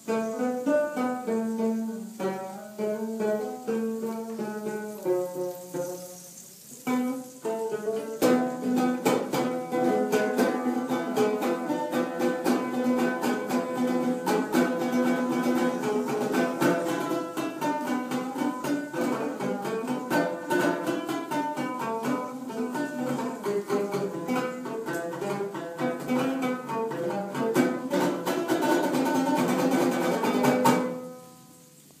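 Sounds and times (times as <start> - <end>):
string instrument fast melody: 0.0 - 6.1, 6.9 - 31.2.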